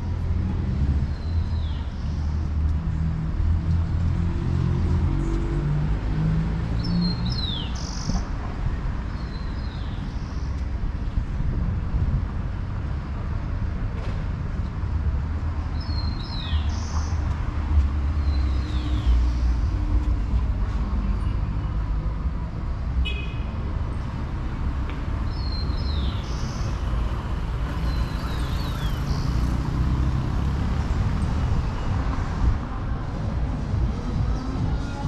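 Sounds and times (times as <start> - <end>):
vehicle engines rumbling: 0.0 - 35.0.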